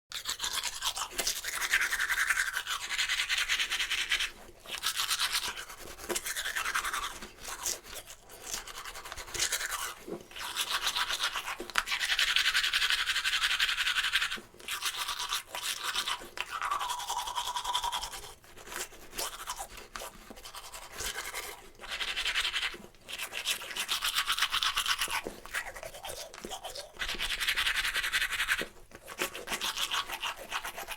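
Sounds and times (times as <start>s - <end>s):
toothbrush scrubbing teeth: 0.1s - 30.9s.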